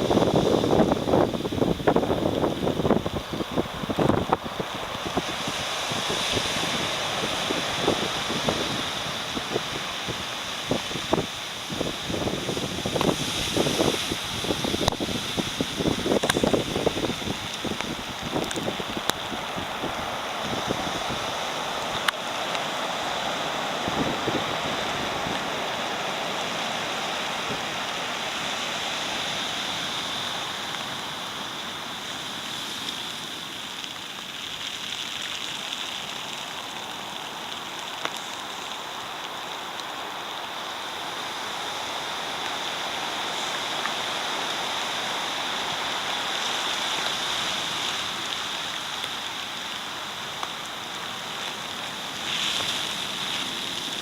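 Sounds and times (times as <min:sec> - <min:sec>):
water washing over a seawall: 0:00.0 - 0:54.0
waves breaking: 0:00.0 - 0:54.0.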